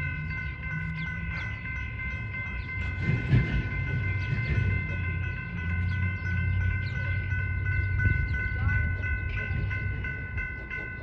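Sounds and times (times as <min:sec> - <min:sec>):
crossing signal bell ringing: 0:00.0 - 0:11.0
freight train wheels rumbling: 0:00.0 - 0:11.0.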